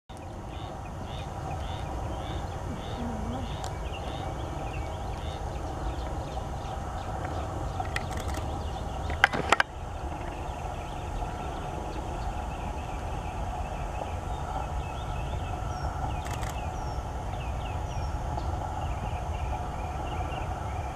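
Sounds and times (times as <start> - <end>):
steady low rumble: 0.1 - 20.9
faint bird calls: 0.2 - 20.9.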